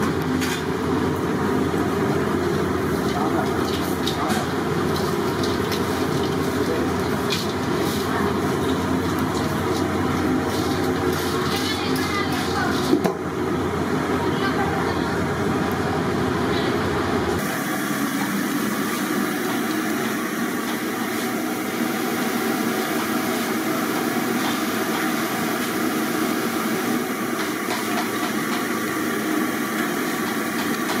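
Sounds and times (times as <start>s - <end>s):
fries sizzling in hot oil: 0.0s - 14.6s, 17.3s - 31.0s.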